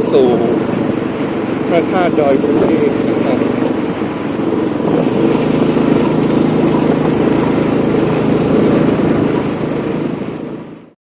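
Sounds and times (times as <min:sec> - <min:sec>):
steady rushing noise: 0:00.0 - 0:11.0
vehicle engine running: 0:00.0 - 0:11.0.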